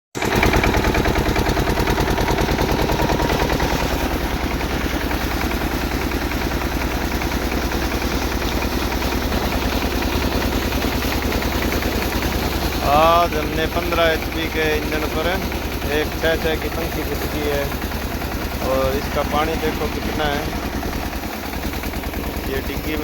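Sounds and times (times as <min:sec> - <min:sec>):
engine running steadily: 0:00.2 - 0:23.0.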